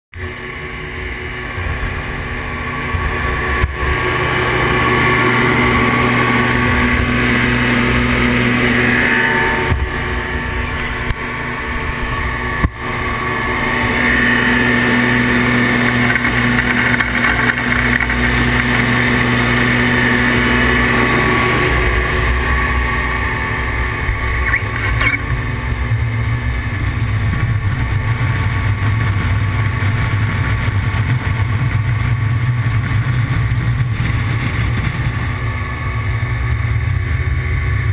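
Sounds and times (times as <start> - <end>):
outboard engines running: 0.2 - 37.9.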